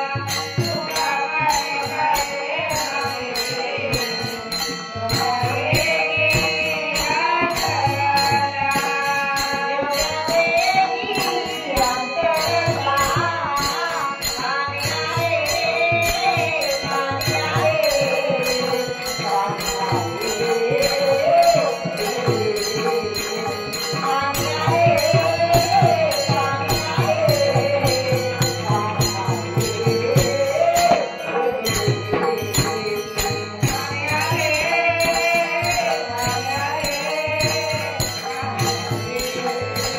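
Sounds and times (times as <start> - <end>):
jingling hand cymbals: 0.0 - 39.9
woman singing devotional song: 0.0 - 39.9.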